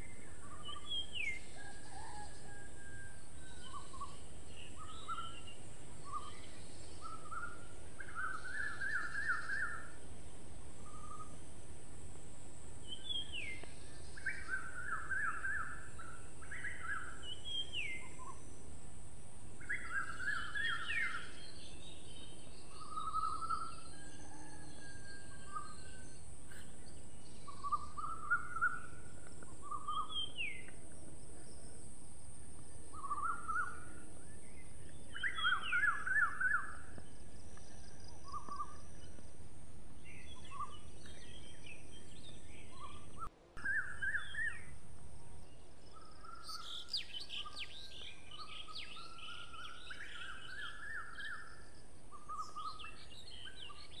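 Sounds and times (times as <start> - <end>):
songbirds chirping: 0.0 - 54.0
steady background hiss: 0.0 - 54.0.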